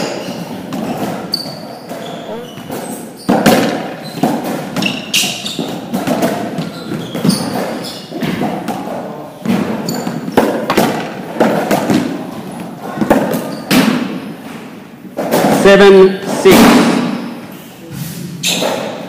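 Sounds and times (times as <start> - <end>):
court shoes squeaking: 0.0 - 15.7, 17.0 - 19.0
racquetball hits echoing: 0.0 - 17.5, 18.3 - 19.0.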